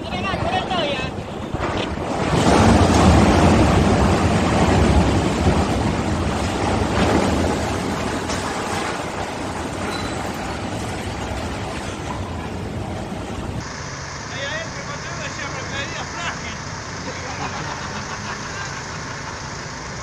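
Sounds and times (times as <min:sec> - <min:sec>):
collapsing crane rumbling din: 0:00.0 - 0:20.0.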